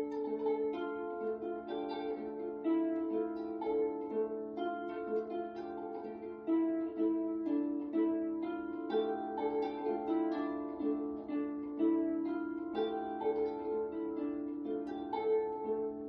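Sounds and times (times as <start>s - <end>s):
acoustic folk instrumental: 0.0s - 16.0s.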